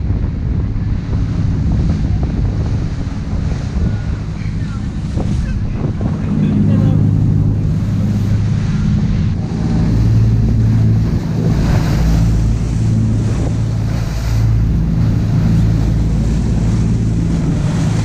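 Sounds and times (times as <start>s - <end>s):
boat engine droning: 0.0s - 18.0s
water rushing against hull: 0.0s - 18.0s
wind buffeting microphone: 0.0s - 18.0s.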